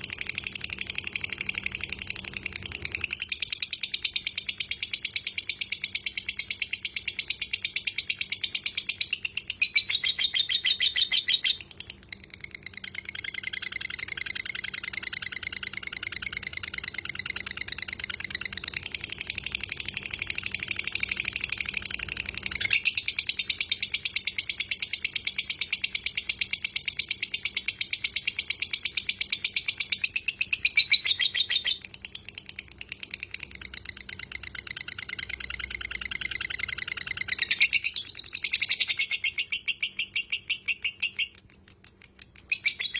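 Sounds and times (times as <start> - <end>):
lovebird chattering trill: 0.0 - 42.9.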